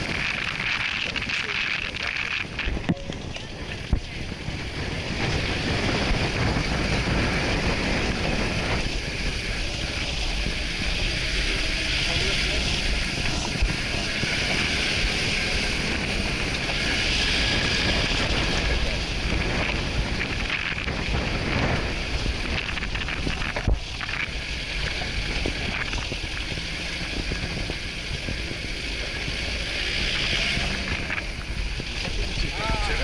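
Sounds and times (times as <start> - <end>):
vehicle engine running: 0.0 - 33.0
wind on microphone: 0.0 - 33.0.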